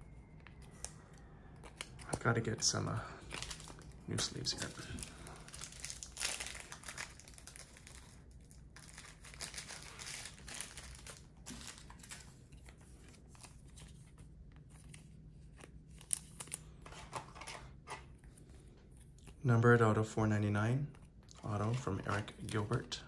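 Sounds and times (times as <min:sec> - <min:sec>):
plastic card sleeves crinkling: 0:00.2 - 0:19.4, 0:20.9 - 0:23.0.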